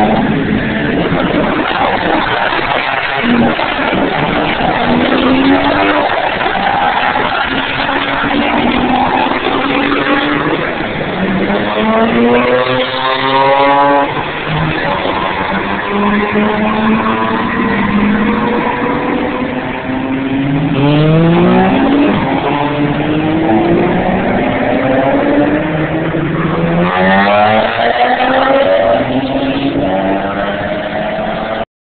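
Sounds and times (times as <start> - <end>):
car engines revving and accelerating: 0.0 - 31.6.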